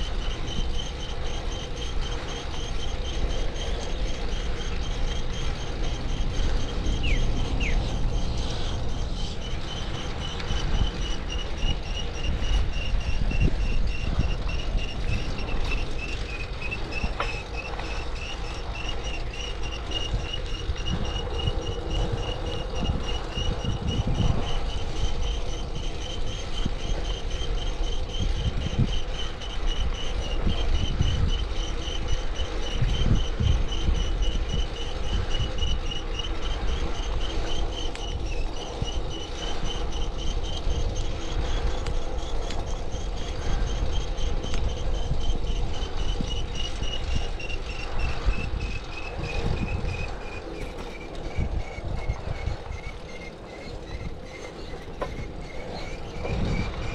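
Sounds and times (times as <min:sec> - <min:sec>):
bicycle chain whine: 0:00.0 - 0:56.9
wind buffeting microphone: 0:00.0 - 0:56.9.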